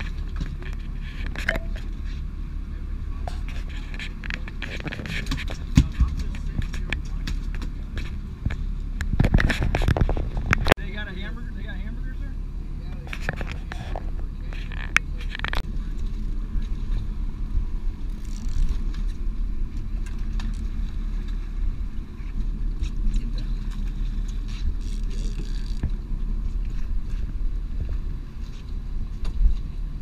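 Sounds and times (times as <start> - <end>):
boat engine low rumble: 0.0 - 30.0.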